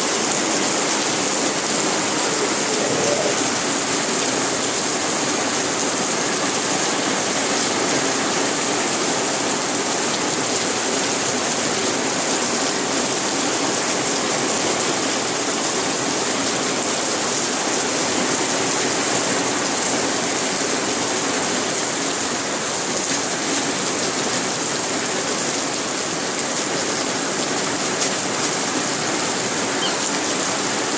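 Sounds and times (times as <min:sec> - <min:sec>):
rain hiss: 0:00.0 - 0:30.9.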